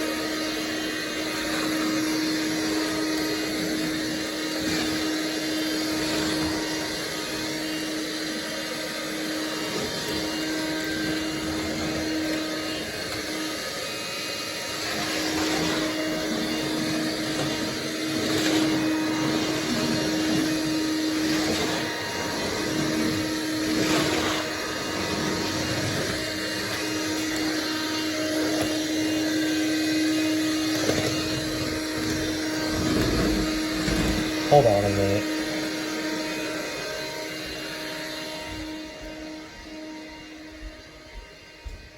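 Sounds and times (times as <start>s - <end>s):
stick vacuum running: 0.0s - 41.9s.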